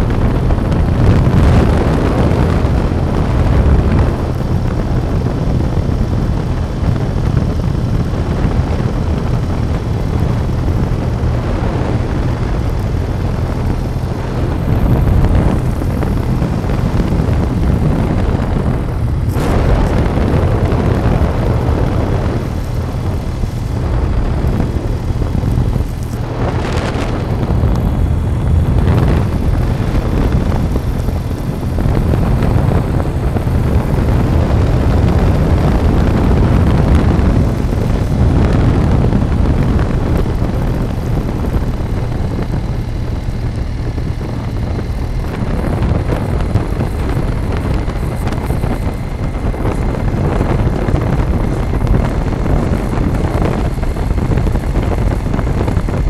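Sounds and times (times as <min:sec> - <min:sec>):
vehicle drone on road: 0:00.0 - 0:56.0
wind rushing over microphone: 0:00.0 - 0:56.0.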